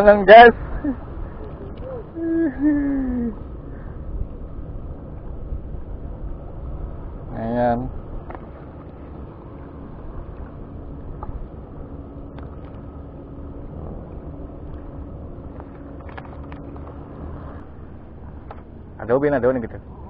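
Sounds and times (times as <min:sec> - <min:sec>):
distant boat engine humming: 0:00.0 - 0:20.0
wind rumble on microphone: 0:00.0 - 0:20.0.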